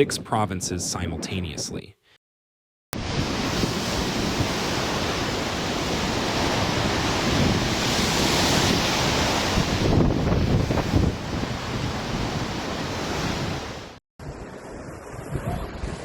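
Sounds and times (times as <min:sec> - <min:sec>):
storm wind blowing: 0:03.0 - 0:16.0
wind buffeting microphone: 0:03.0 - 0:16.0.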